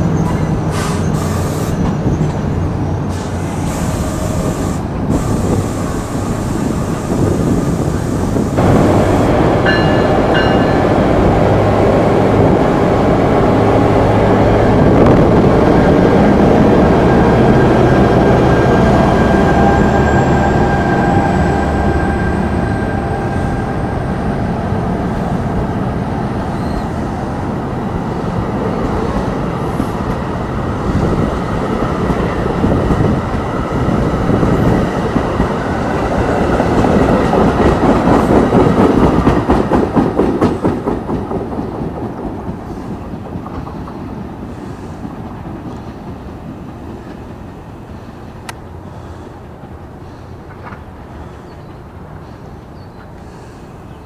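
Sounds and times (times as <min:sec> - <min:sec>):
locomotive diesel engines: 0:00.0 - 0:38.8, 0:42.4 - 0:54.0
train wheels rumbling on rail: 0:00.0 - 0:54.0.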